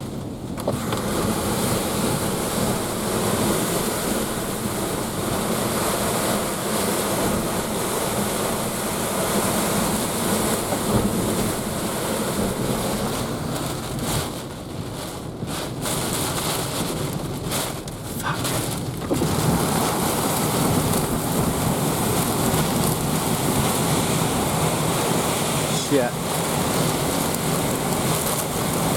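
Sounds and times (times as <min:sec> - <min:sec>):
strong wind buffeting microphone: 0:00.0 - 0:28.9.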